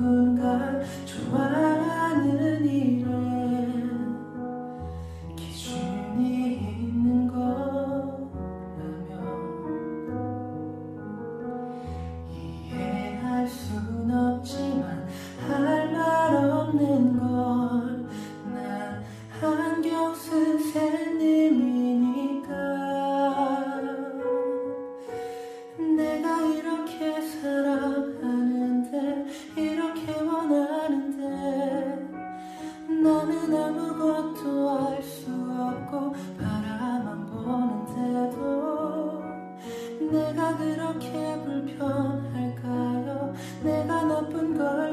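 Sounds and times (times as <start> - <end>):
man singing a slow ballad: 0.0 - 10.4, 11.7 - 44.9
piano accompaniment: 0.0 - 44.9.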